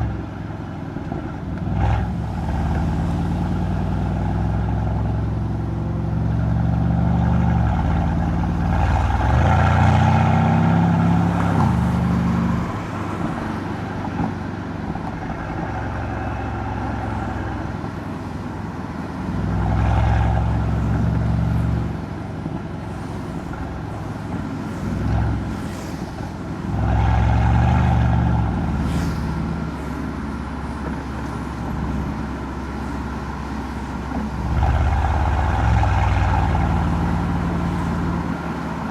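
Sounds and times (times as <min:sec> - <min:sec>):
car exhaust while driving: 0:00.0 - 0:38.9.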